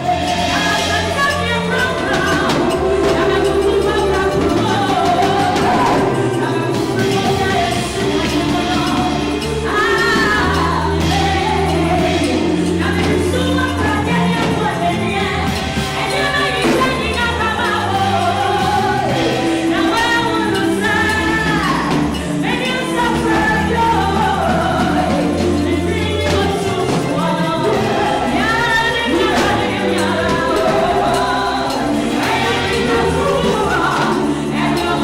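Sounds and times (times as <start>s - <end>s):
choir singing gospel: 0.0s - 35.0s
instrumental accompaniment with bass: 0.0s - 35.0s.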